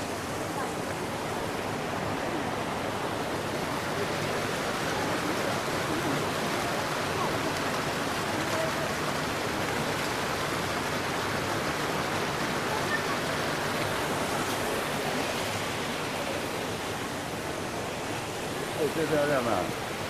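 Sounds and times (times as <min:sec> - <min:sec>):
water rushing into a pool: 0:00.0 - 0:20.0.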